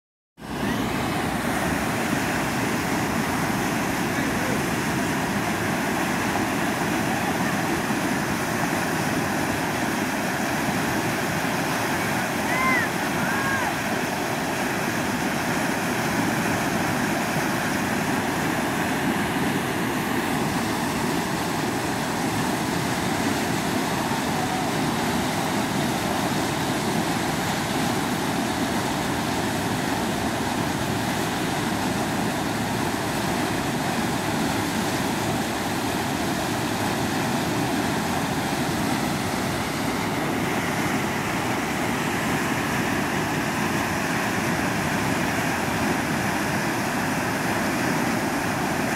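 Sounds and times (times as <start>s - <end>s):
whitewater rushing: 0.4s - 48.9s.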